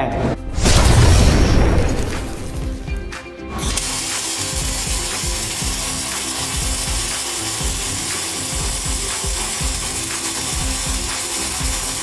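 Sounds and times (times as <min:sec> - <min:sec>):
welding arc crackling: 0:01.6 - 0:12.0.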